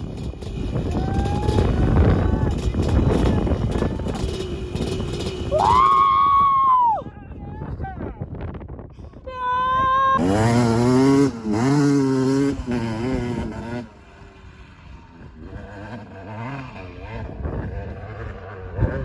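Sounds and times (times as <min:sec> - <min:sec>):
dirt bike engine revving: 0:00.0 - 0:06.6, 0:10.2 - 0:19.0.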